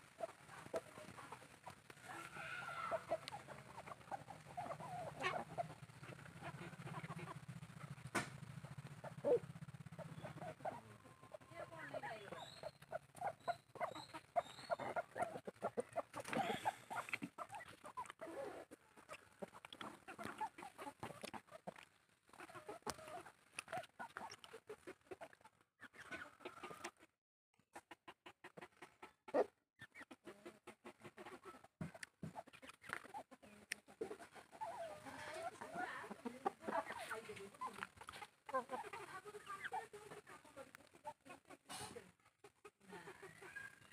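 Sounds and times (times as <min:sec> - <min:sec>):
chickens clucking: 0:00.0 - 0:27.1, 0:27.7 - 0:43.9.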